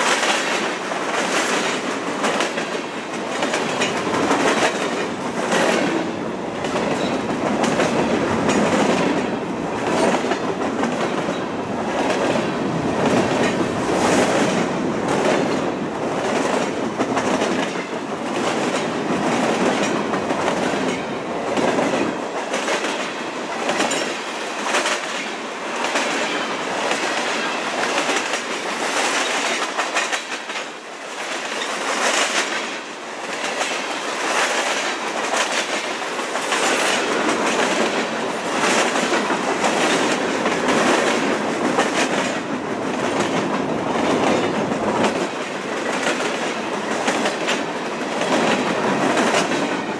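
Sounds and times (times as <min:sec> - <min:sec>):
rumble of wheels on rail: 0:00.0 - 0:49.9
train wheels clacking on rails: 0:00.0 - 0:49.9.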